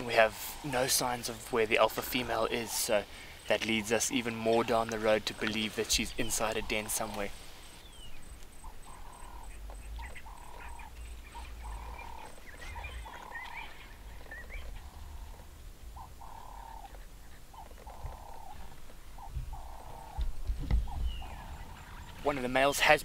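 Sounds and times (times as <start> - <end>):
frog calling: 0.0 - 23.0.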